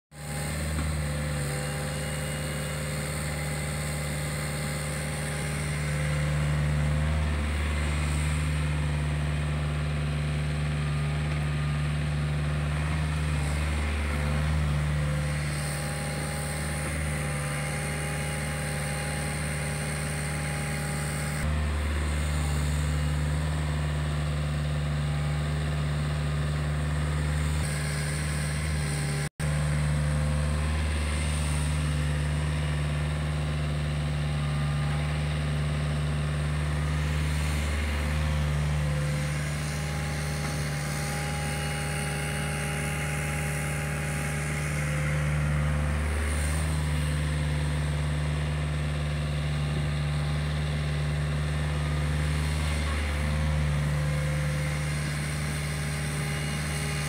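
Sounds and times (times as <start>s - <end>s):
excavator diesel engine running: 0.2s - 57.0s.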